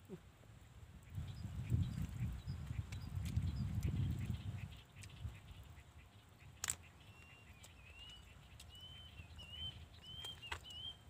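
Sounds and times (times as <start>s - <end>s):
small bird chirping: 1.0s - 11.0s.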